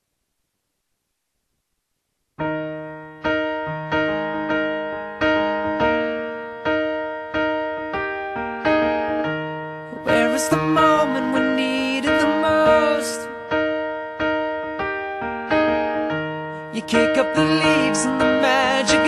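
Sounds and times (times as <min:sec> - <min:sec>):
piano chords: 0:02.4 - 0:19.0.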